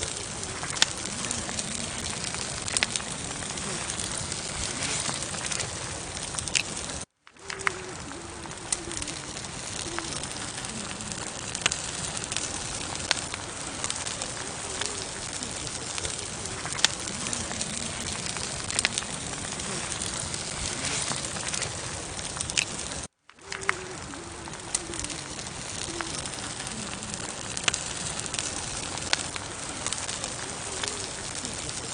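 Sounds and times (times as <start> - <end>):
campfire hiss: 0.0 - 31.9
wood crackling and popping: 0.0 - 31.9.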